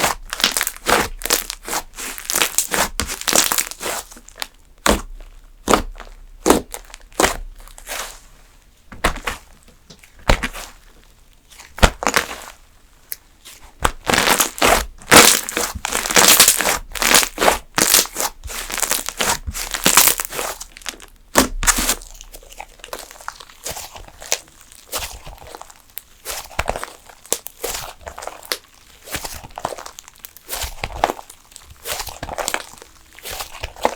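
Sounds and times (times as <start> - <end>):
slime popping and crackling: 0.0 - 8.1, 9.0 - 12.6, 13.6 - 33.9.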